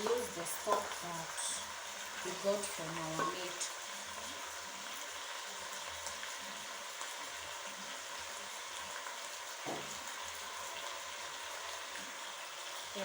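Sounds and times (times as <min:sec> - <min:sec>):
chicken frying in a pot: 0:00.0 - 0:13.0.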